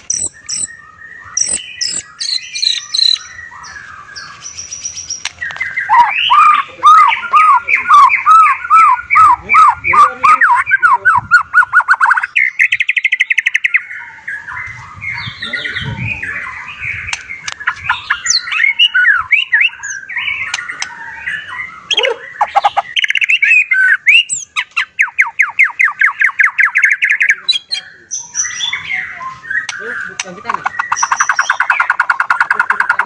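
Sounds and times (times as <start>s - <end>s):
bird singing whistled song: 0.0s - 33.0s.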